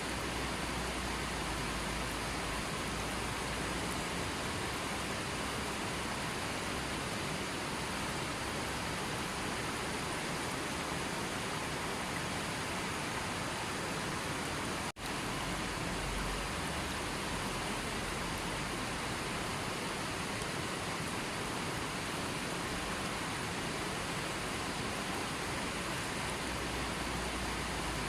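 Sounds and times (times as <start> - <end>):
rushing water: 0.0 - 28.0.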